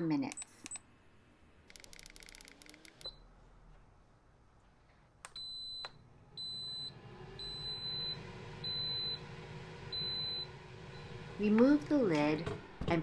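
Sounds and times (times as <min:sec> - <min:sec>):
fan humming: 0:02.6 - 0:13.0.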